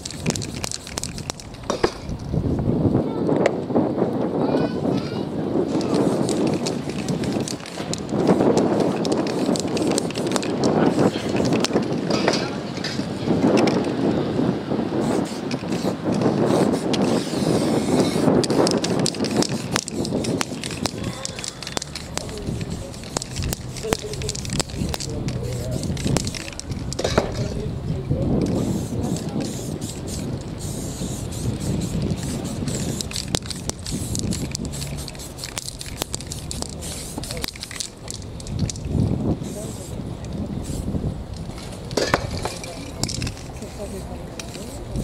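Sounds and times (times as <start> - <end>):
spray paint can hissing: 0.0 - 2.2, 5.7 - 14.1, 14.9 - 27.7, 28.4 - 45.0
spray can clicks and rattles: 0.0 - 2.3, 5.7 - 14.0, 15.0 - 27.7, 28.4 - 45.0
street noise: 0.0 - 45.0.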